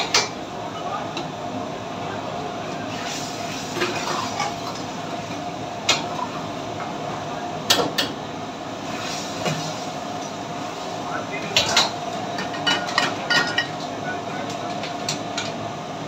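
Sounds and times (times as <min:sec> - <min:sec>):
kitchen range roaring: 0:00.0 - 0:16.0.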